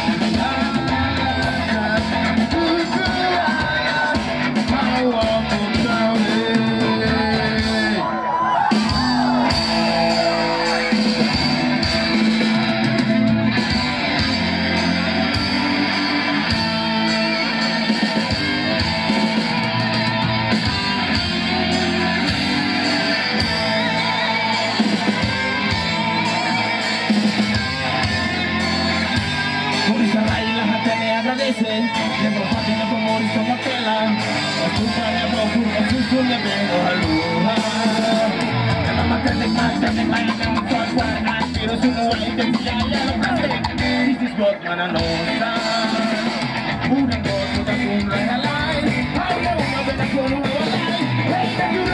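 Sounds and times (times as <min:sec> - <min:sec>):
live band music led by guitar: 0:00.0 - 0:51.9
person singing: 0:00.0 - 0:51.9.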